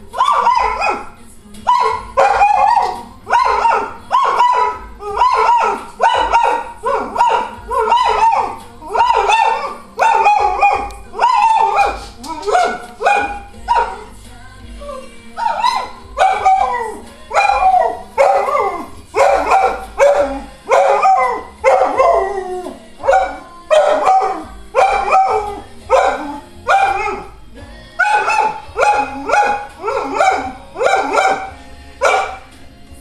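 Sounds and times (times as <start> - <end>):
tv theme music: 0.0 - 33.0
dog howling and whining: 0.1 - 14.1, 14.7 - 32.5.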